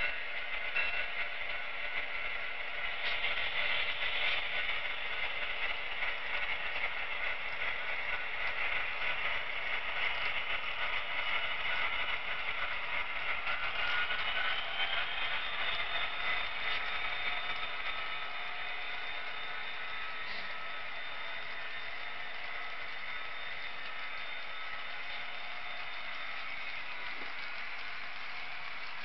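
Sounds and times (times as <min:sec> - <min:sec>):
model train wheels clattering on track: 0:00.0 - 0:29.0.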